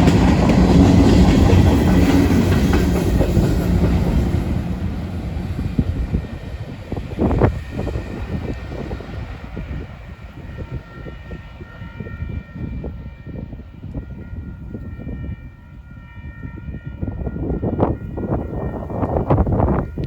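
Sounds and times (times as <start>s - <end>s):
freight train cars rumbling: 0.0s - 20.0s.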